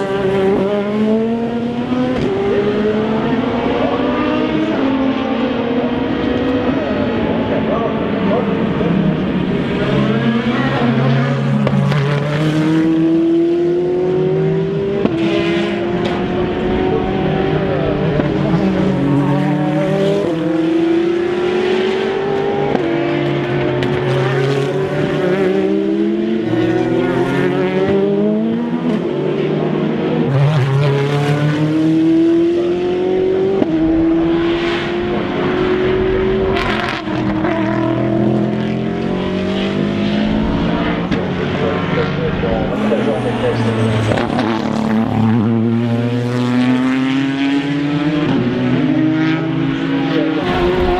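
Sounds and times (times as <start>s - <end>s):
racing cars accelerating through gears: 0.0s - 50.9s.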